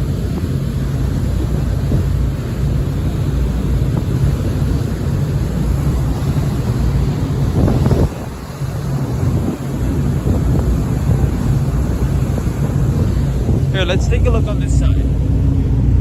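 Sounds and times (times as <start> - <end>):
ferry engine low drone: 0.0 - 16.0
wind buffeting microphone: 0.0 - 16.0.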